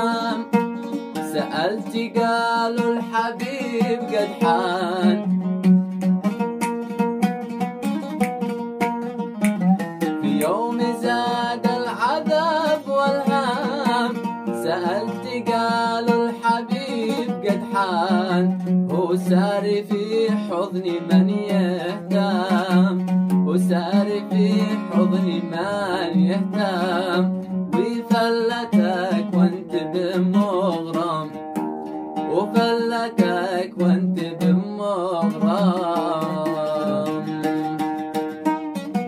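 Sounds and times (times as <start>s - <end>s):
man singing: 0.0s - 5.6s, 10.0s - 31.6s, 32.2s - 38.3s
oud plucked: 0.0s - 39.0s.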